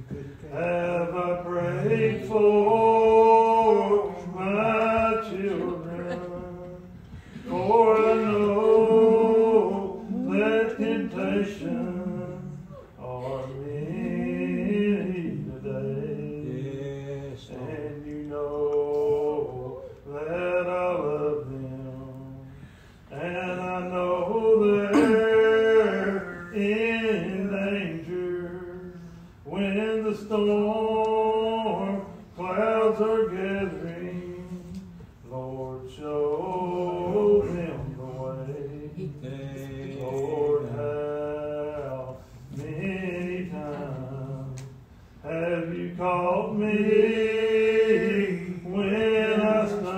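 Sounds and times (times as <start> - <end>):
man leading unaccompanied hymn singing: 0.0 - 49.9.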